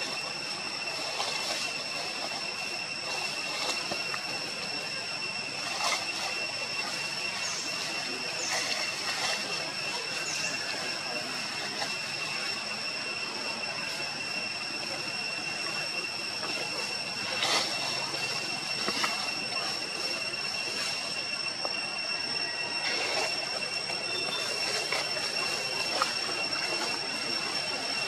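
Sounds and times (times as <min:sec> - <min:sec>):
constant hiss: 0:00.0 - 0:28.0
high-pitched drone: 0:00.0 - 0:28.0.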